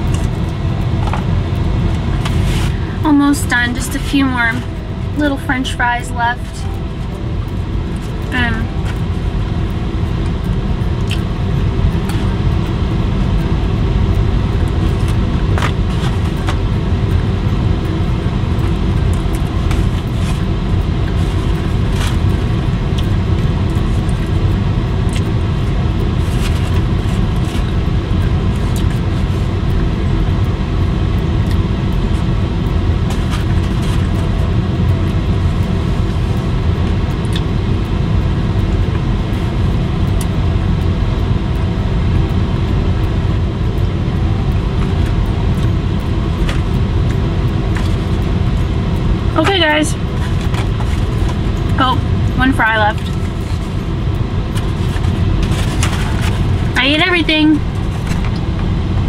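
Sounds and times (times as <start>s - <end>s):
low car cabin rumble: 0.0s - 59.0s.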